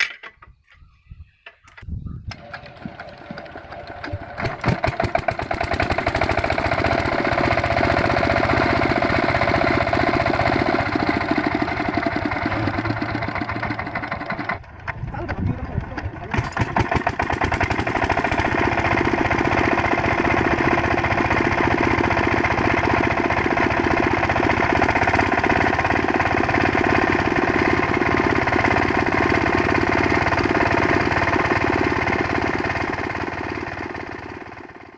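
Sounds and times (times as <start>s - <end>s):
diesel water pump engine chugging: 2.3s - 34.9s.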